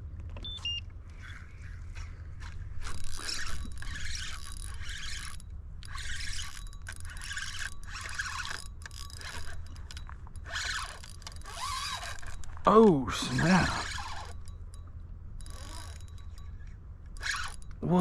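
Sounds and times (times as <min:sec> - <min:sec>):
steady low hum: 0:00.0 - 0:18.0
fishing reel whirring: 0:01.1 - 0:12.7, 0:13.3 - 0:18.0.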